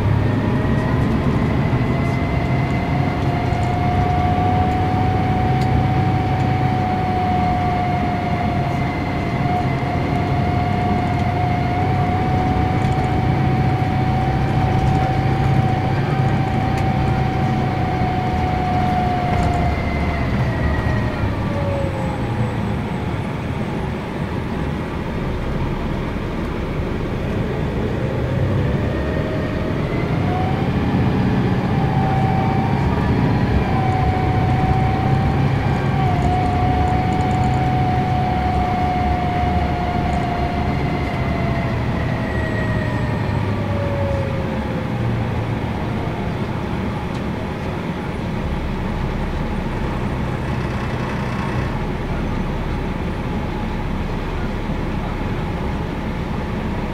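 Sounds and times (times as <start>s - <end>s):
diesel engine low rumble: 0.0s - 56.9s
steady high whine: 0.0s - 56.9s.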